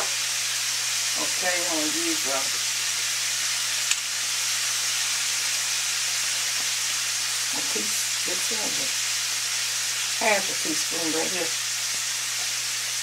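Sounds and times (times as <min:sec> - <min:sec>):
oil sizzling while deep-frying: 0:00.0 - 0:13.0.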